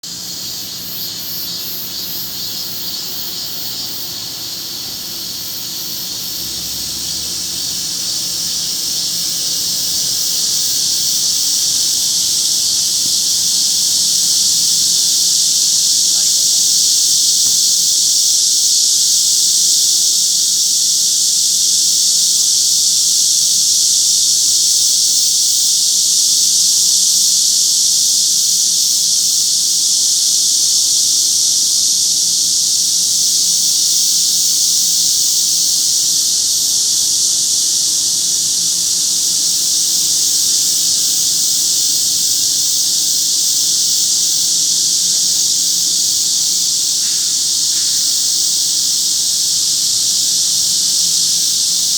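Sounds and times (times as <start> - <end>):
cicadas and crickets singing: 0.0 - 51.9.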